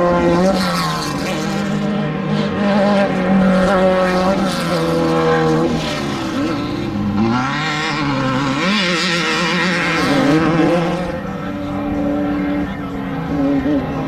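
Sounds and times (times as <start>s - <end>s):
race vehicle engines running hard: 0.0s - 14.0s.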